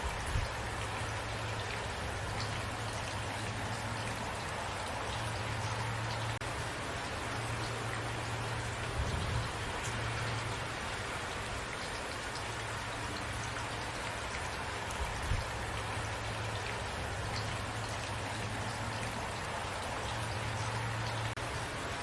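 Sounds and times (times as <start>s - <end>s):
steady rain hissing: 0.0s - 22.0s.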